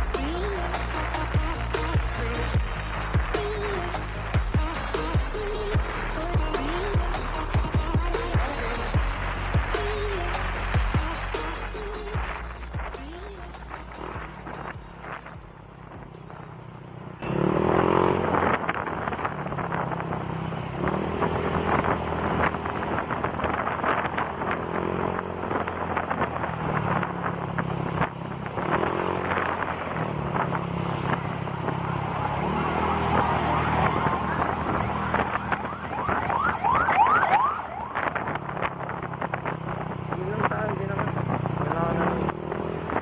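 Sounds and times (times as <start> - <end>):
scooter engine revving: 0.0 - 36.7, 38.0 - 43.0
wind and road noise: 0.0 - 43.0.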